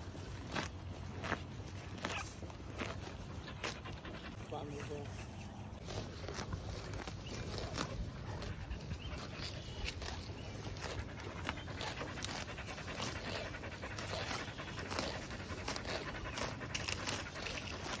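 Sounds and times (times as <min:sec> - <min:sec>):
cattle breathing heavily: 0:00.0 - 0:18.0
grass tearing and chewing: 0:00.0 - 0:18.0.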